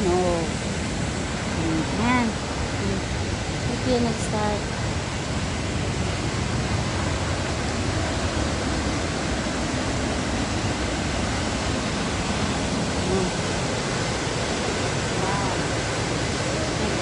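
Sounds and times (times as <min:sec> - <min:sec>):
river rushing in flood: 0:00.0 - 0:17.0.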